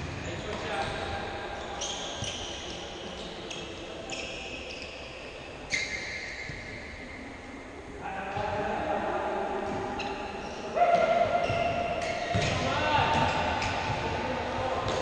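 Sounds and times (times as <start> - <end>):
shoes squeaking on court floor: 0.0 - 7.3, 9.7 - 15.0.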